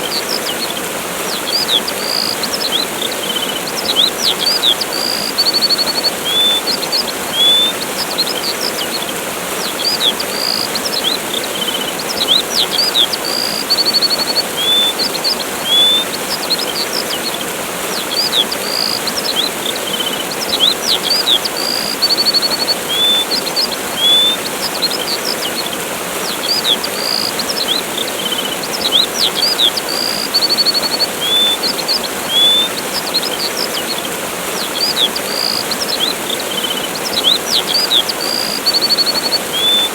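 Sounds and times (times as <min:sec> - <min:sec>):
birds chirping: 0:00.0 - 0:39.9
waterfall rushing: 0:00.0 - 0:39.9.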